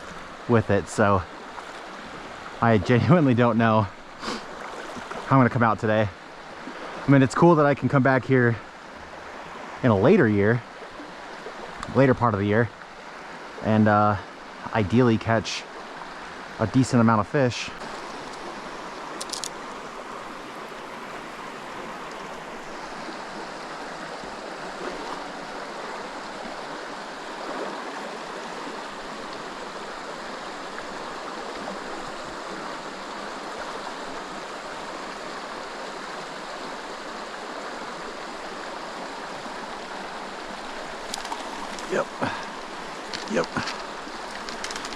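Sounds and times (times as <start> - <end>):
creek water running over rocks: 0.0 - 44.9.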